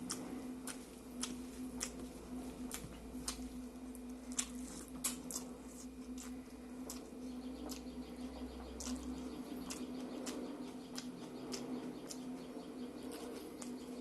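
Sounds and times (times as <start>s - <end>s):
steady low hum: 0.0s - 14.0s
wet chewing: 0.0s - 14.0s.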